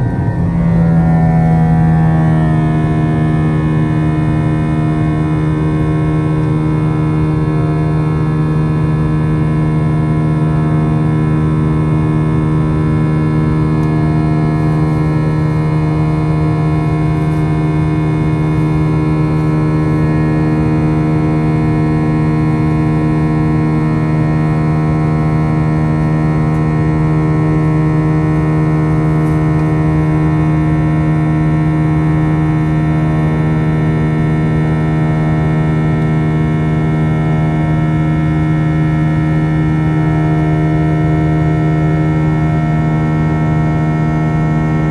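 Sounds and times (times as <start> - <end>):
jet engine cabin drone: 0.0 - 44.9.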